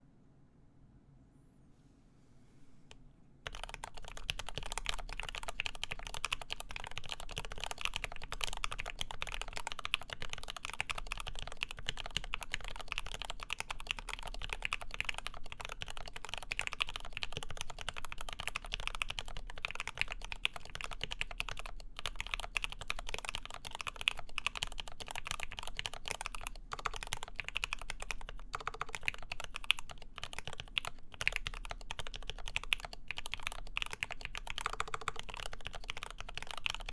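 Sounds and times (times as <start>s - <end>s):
fast typing on mechanical keyboard: 3.4s - 36.9s.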